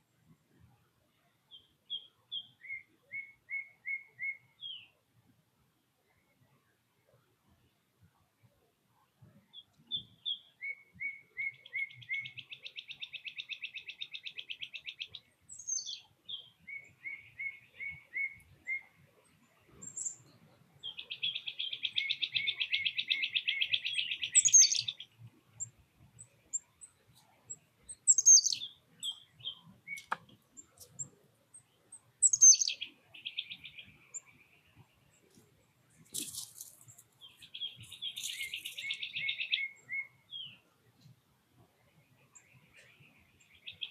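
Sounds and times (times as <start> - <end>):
songbirds singing: 0.0 - 5.3, 6.0 - 43.9.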